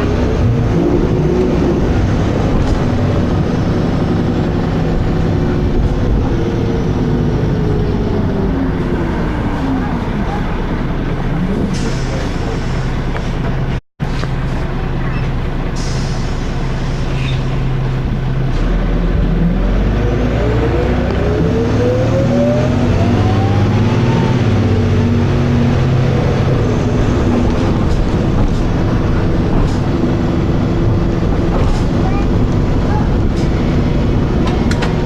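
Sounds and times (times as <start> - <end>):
bus diesel engine accelerating: 0.0 - 35.0.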